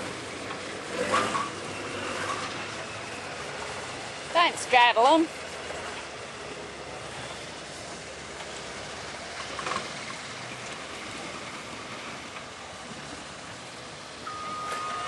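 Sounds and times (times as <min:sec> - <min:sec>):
truck engine at low revs: 0:00.0 - 0:15.0.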